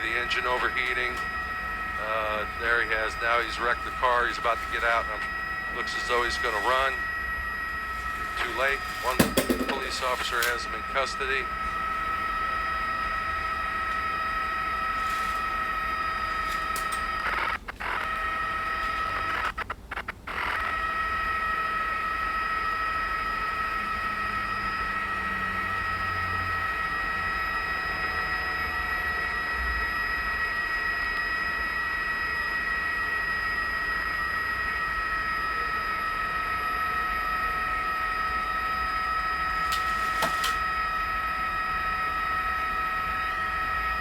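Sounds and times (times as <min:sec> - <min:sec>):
helicopter engine and rotor whine: 0:00.0 - 0:44.0.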